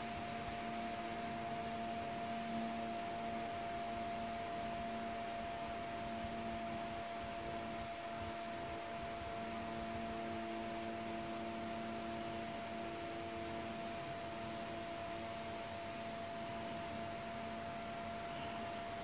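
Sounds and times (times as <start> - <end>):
steady high hum: 0.0 - 19.0.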